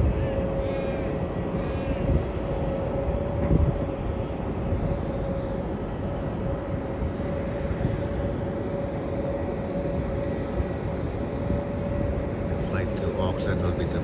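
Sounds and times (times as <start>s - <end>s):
jet engine rumble and whine: 0.0s - 14.0s.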